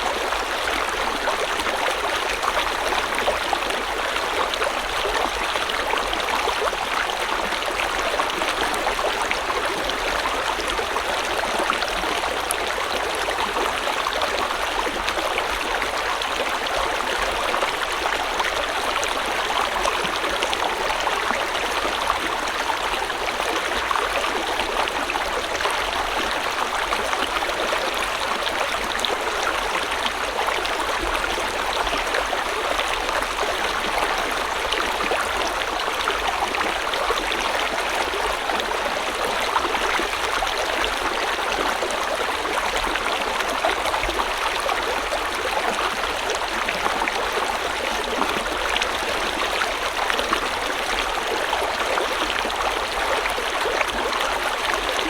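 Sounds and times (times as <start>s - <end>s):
stream flowing and splashing: 0.0s - 55.0s.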